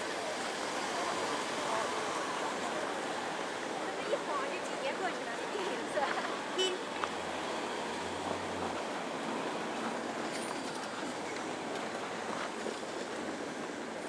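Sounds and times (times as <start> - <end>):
outdoor street noise: 0.0 - 14.0.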